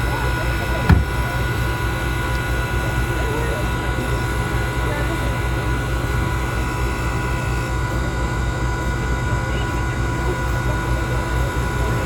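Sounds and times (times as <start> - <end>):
engine-like mechanical rumble: 0.0 - 12.0
faint steady tones: 0.0 - 12.0.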